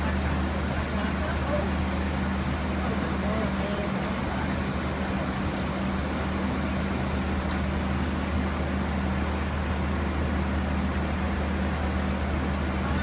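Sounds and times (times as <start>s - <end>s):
vehicle cabin drone and hiss: 0.0s - 13.0s.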